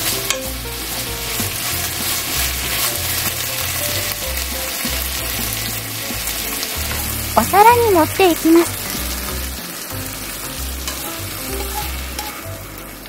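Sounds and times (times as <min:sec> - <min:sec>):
chopsticks tapping a pan: 0:00.0 - 0:12.5
peppers sizzling in a frying pan: 0:00.0 - 0:13.0.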